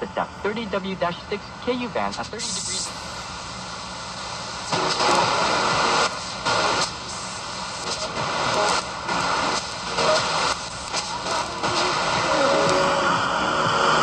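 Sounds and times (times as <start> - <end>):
shortwave radio static and hiss: 0.0 - 14.0.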